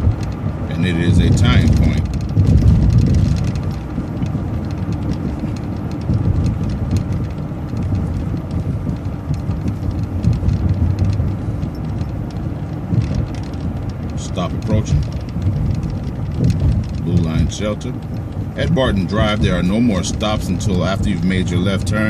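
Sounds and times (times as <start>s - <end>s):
bus engine and road rumble: 0.0s - 22.0s
faint light rattles: 0.0s - 22.0s.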